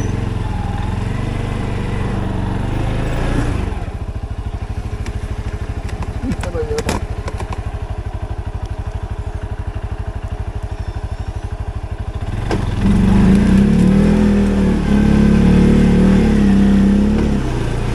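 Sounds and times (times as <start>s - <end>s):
atv engine idling and revving: 0.0s - 17.9s.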